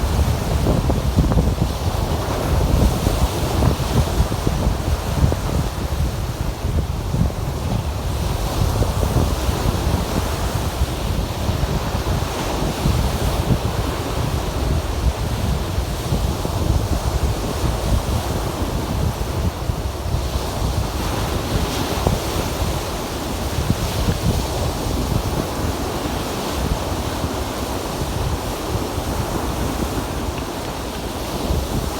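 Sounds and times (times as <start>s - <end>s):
waves breaking on shore: 0.0s - 31.9s
wind buffeting microphone: 0.0s - 31.9s.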